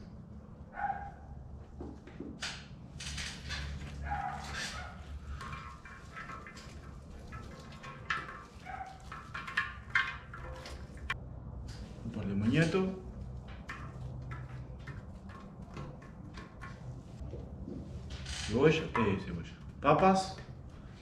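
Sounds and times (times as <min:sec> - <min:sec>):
rustling and knocking of handling: 0:01.5 - 0:21.0.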